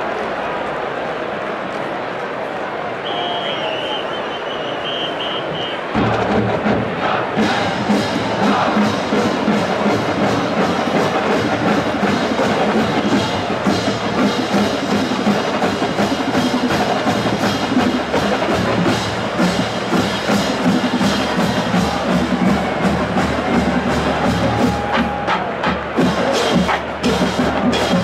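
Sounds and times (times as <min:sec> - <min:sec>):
marching drumline cadence: 0:02.9 - 0:28.0.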